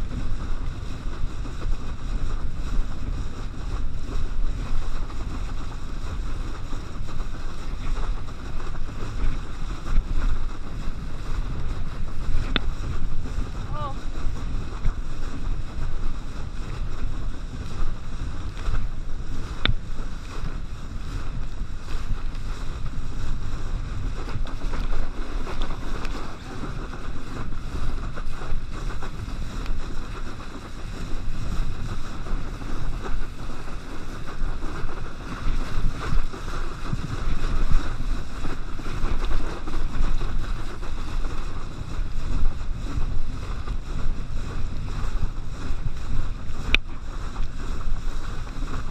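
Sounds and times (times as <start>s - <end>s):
water rushing and spraying: 0.0s - 48.9s
wind buffeting microphone: 0.0s - 48.9s.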